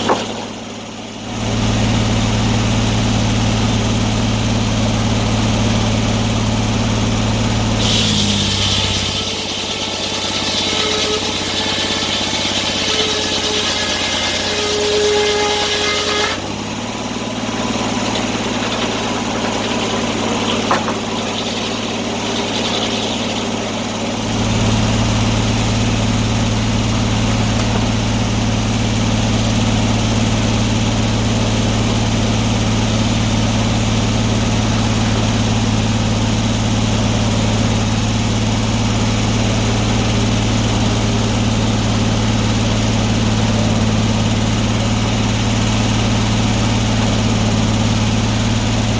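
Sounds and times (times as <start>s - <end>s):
sawmill engine running: 0.0s - 48.9s.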